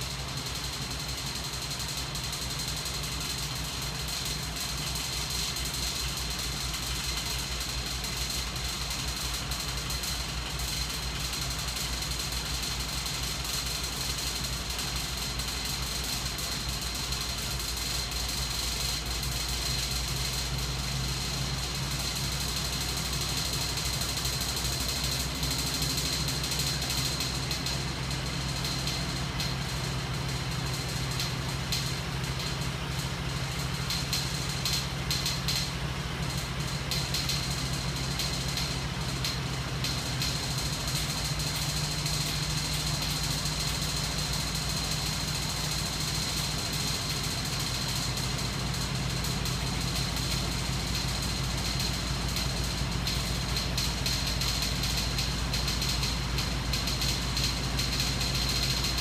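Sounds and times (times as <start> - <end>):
motor rig mechanical hum: 0.0 - 59.0.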